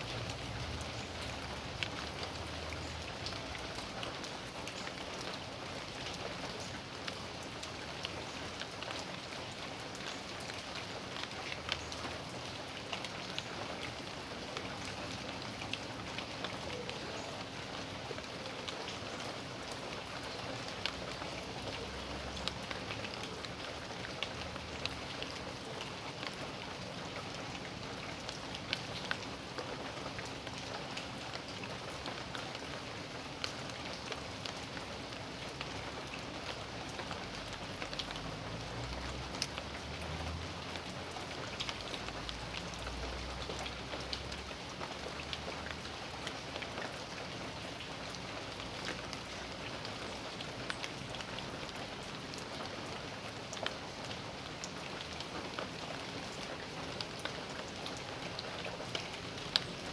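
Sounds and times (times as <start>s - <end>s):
raindrops ticking and splatting: 0.0s - 59.9s
steady rain hiss: 0.0s - 59.9s.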